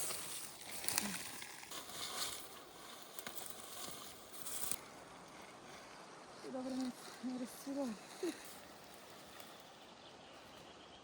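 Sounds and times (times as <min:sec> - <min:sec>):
rustling of wet vegetation: 0:00.0 - 0:11.0.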